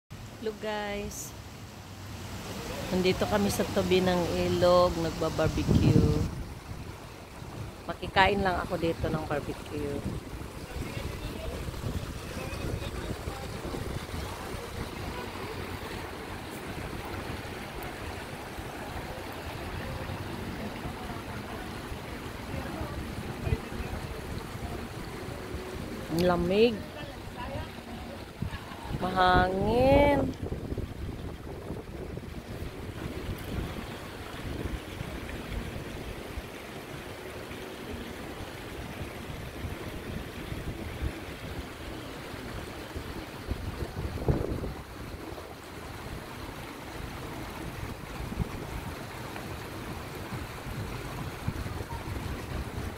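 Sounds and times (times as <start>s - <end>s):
river water rushing over stones: 0.2s - 52.9s
wind rumbling on microphone: 2.4s - 52.9s.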